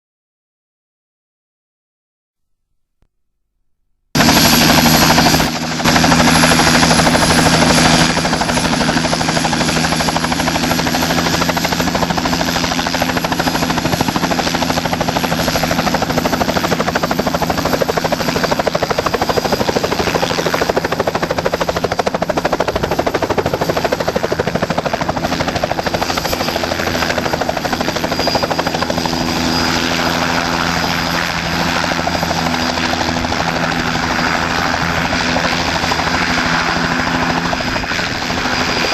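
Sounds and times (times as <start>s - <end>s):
helicopter rotor and engine drone: 4.2s - 38.9s.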